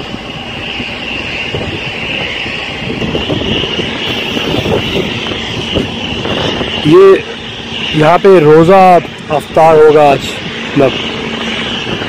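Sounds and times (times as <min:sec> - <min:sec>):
road and air hiss: 0:00.0 - 0:12.0
vehicle engine rumble: 0:00.0 - 0:12.0.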